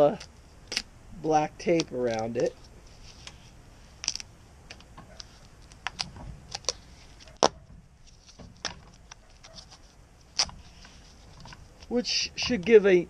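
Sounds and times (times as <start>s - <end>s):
tape pulled off roll crackling: 0.1s - 0.9s, 1.8s - 12.6s.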